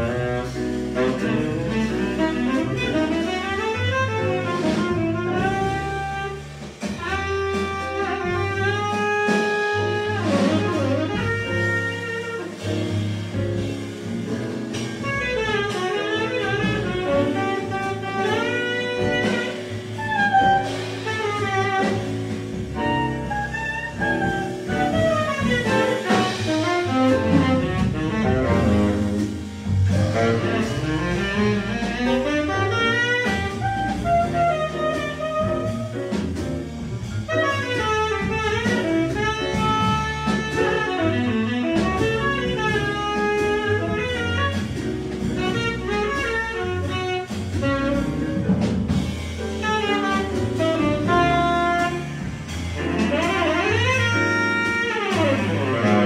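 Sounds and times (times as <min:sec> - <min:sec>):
tenor saxophone: 0:00.0 - 0:14.0, 0:14.8 - 0:36.2, 0:37.0 - 0:56.0
drums: 0:00.0 - 0:56.0
piano runs: 0:00.0 - 0:56.0
walking double bass line: 0:00.0 - 0:56.0.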